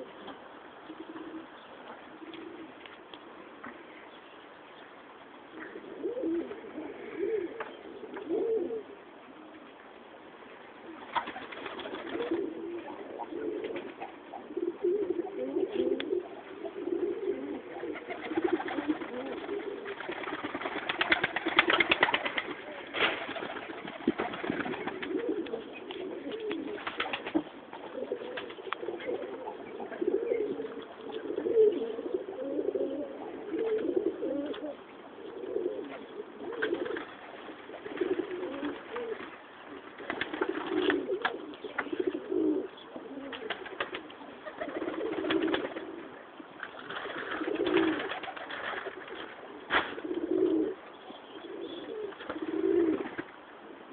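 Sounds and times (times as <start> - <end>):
pigeons cooing: 0.0 - 2.9, 5.5 - 9.7, 10.8 - 53.9.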